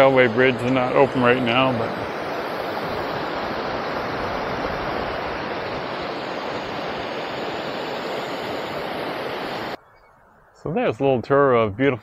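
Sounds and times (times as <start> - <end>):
wind noise on microphone: 0.0 - 10.6.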